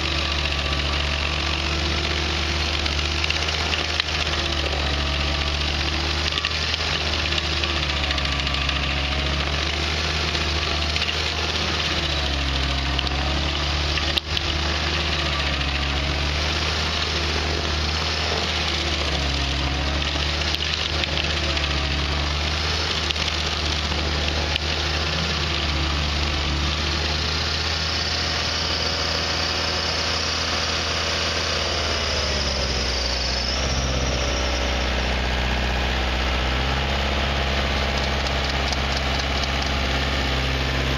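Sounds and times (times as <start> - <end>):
stump grinder grinding: 0.0 - 40.9.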